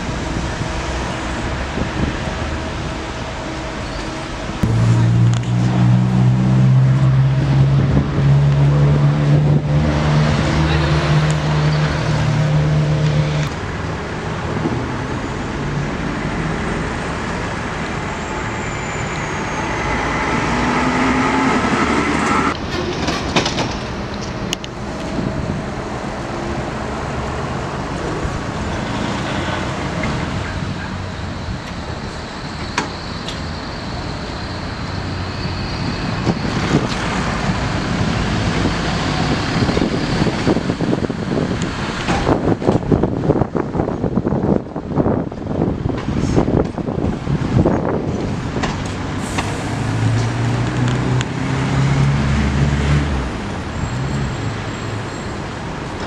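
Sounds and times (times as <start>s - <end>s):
tram wheels rumbling: 0.0s - 56.0s.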